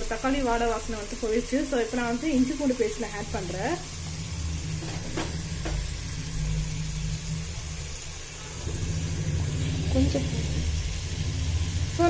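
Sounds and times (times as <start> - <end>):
low motor-like hum: 0.0 - 12.0.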